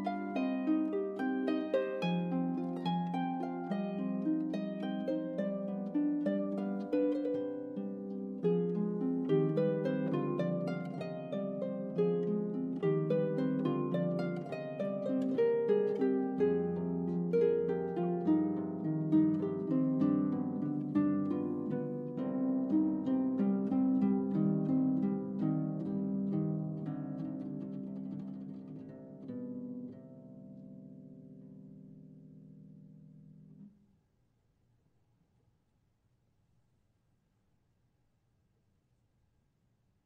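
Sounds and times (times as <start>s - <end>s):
harp playing plucked notes: 0.0s - 33.5s.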